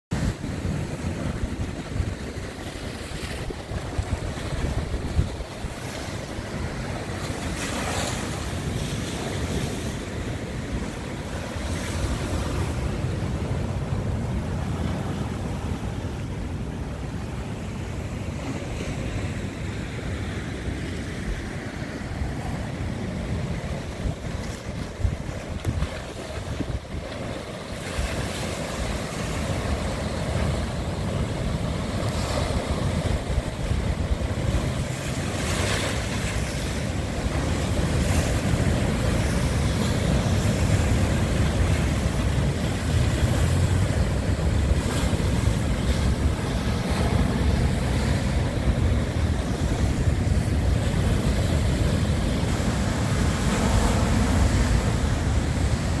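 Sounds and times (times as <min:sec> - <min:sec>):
wind buffeting microphone: 0:00.1 - 0:17.0, 0:19.4 - 0:56.0
waves crashing against seawall: 0:00.1 - 0:56.0.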